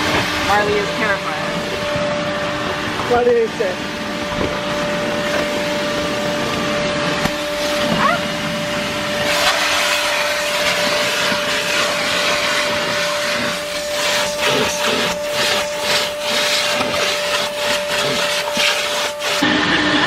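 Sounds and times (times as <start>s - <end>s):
vacuum whine and suction: 0.0s - 20.0s.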